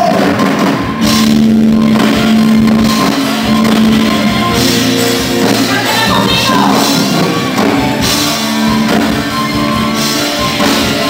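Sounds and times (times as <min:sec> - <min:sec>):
bass guitar: 0:00.0 - 0:11.0
drum kit: 0:00.0 - 0:11.0
electric guitar: 0:00.0 - 0:11.0.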